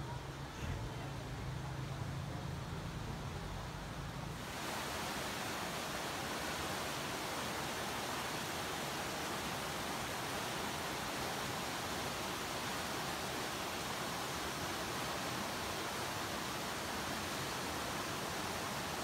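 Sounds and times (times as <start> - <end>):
river rushing over rocks: 2.5 - 19.0.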